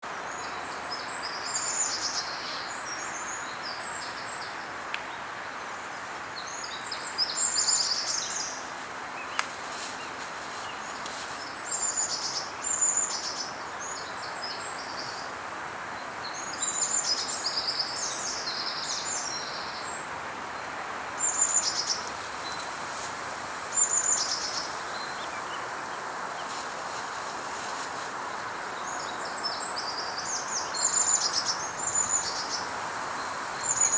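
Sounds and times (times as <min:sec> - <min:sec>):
steady background hiss: 0:00.0 - 0:33.9
songbirds chirping: 0:00.1 - 0:33.9.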